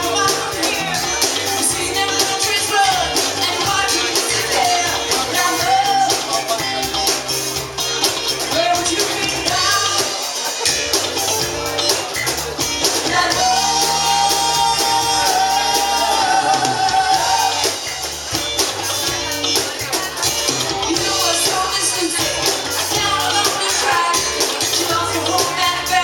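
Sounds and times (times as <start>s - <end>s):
person singing: 0.0s - 7.3s, 8.3s - 10.6s, 12.6s - 18.0s, 19.3s - 26.0s
drums keeping steady beat: 0.0s - 26.0s
guitar: 0.0s - 26.0s.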